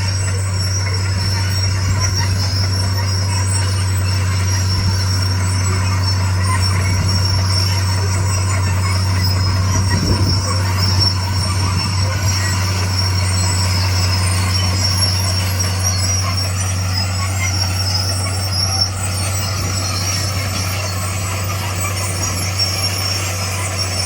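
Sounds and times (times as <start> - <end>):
diesel engine drone: 0.0 - 24.0
thin high squeal: 0.0 - 24.0.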